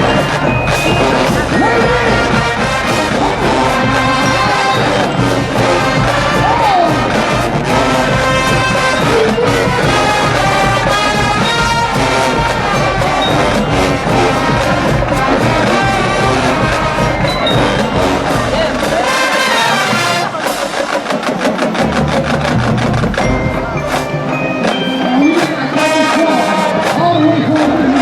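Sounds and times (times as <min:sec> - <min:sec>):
drums: 0:00.0 - 0:28.0
marching band brass section: 0:00.0 - 0:28.0.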